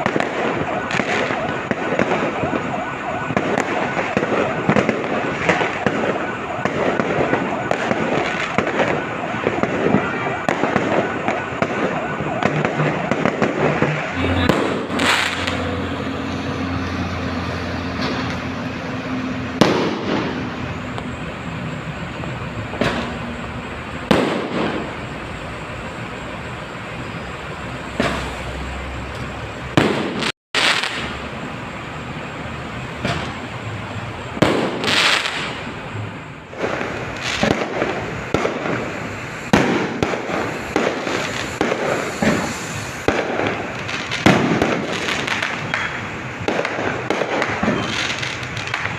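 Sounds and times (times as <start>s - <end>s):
fireworks bangs and pops: 0.0s - 27.2s, 27.9s - 31.8s, 32.8s - 48.9s
rumbling crackle of fireworks: 0.0s - 48.9s.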